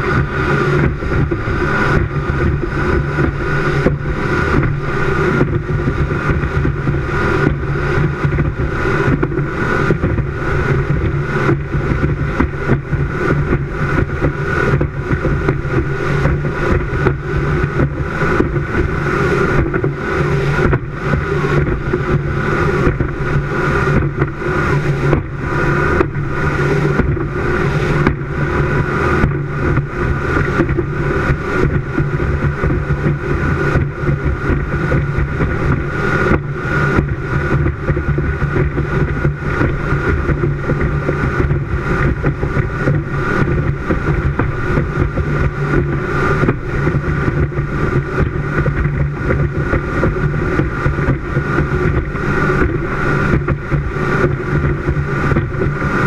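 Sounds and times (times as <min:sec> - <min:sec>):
rushing wind and water: 0:00.0 - 0:56.0
speedboat engine drone: 0:00.0 - 0:56.0.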